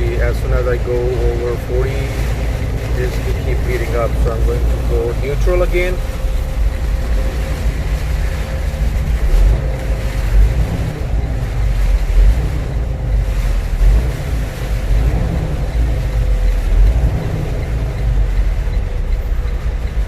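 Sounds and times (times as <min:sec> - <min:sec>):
truck diesel engine rumble: 0:00.0 - 0:20.0.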